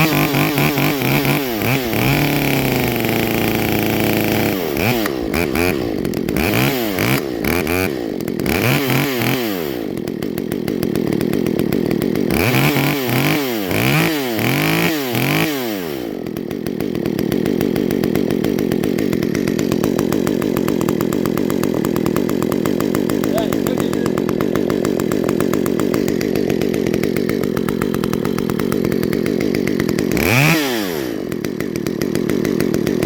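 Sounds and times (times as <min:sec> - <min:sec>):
chainsaw revving: 0:00.0 - 0:33.0.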